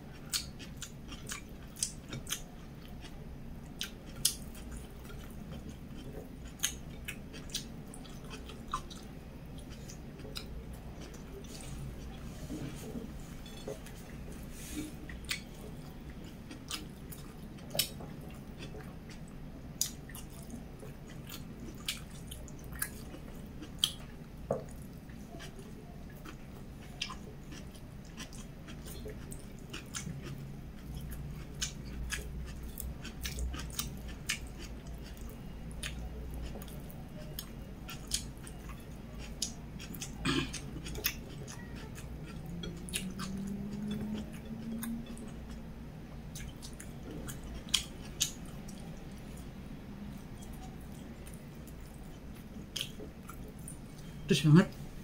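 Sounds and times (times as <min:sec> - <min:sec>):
chewing food: 0:00.0 - 0:54.2.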